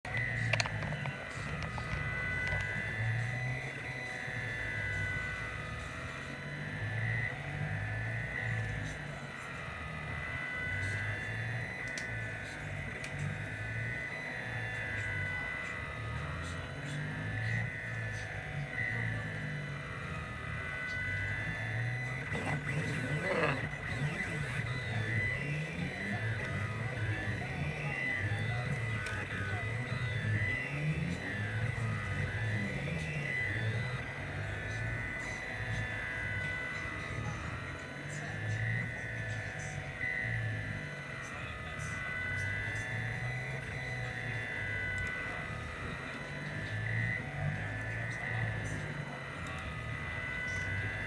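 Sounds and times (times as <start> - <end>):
low hum: 0.0 - 51.0
stepper motors whining: 0.0 - 51.0.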